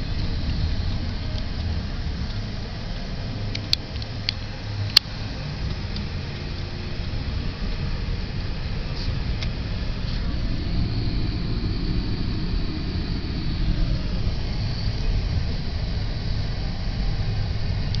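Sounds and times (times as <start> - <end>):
car engine and tyres on snow: 0.0 - 18.0.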